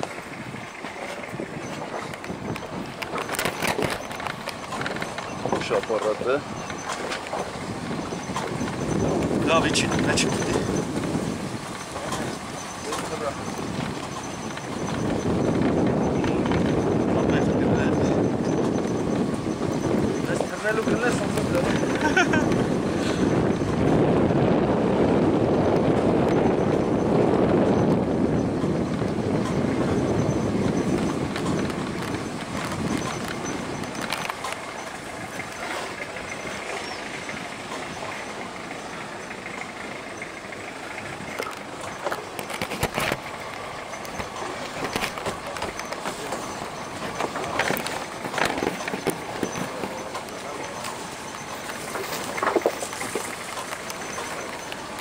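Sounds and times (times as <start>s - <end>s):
knocks and rattles over bumps: 0.0s - 55.0s
vehicle driving on rocky track: 0.0s - 55.0s.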